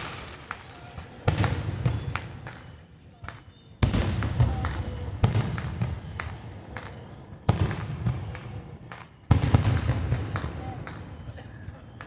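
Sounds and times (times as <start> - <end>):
firework booms: 0.0 - 12.0
firework pops and crackles: 0.0 - 12.0.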